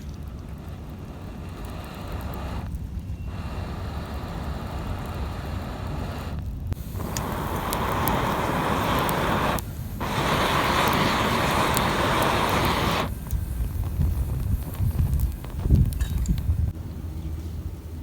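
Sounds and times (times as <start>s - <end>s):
twig fire crackling: 0.0s - 16.8s
wind rumble on microphone: 0.0s - 16.8s
steady rushing hiss: 0.0s - 16.9s.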